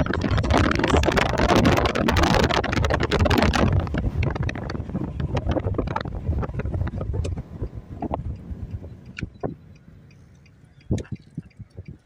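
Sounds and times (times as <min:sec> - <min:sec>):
wind buffeting microphone: 0:00.0 - 0:09.7, 0:10.6 - 0:12.0
car road rumble: 0:00.0 - 0:12.0.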